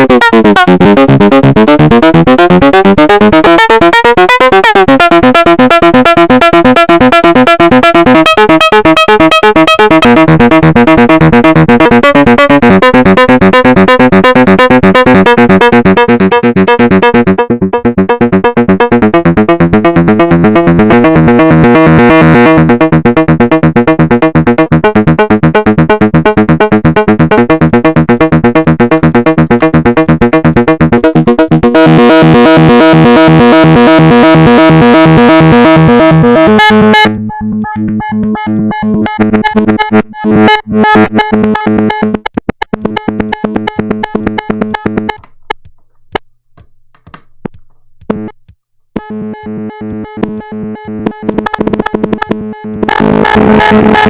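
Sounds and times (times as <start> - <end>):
synthesizer arpeggio: 0.0 - 45.3, 48.1 - 48.3, 49.0 - 54.0.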